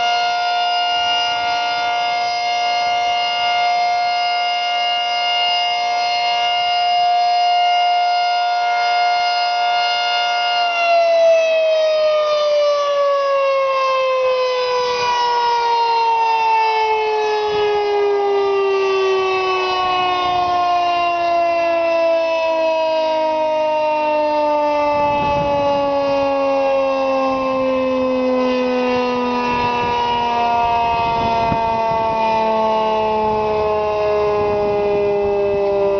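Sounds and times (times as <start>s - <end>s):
outdoor warning siren winding down: 0.0s - 35.9s.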